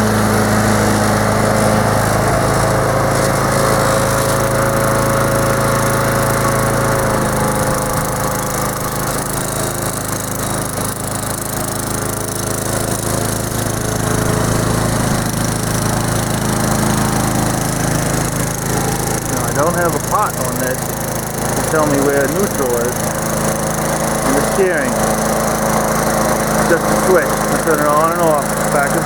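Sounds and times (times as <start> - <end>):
lawn mower engine running: 0.0 - 29.0.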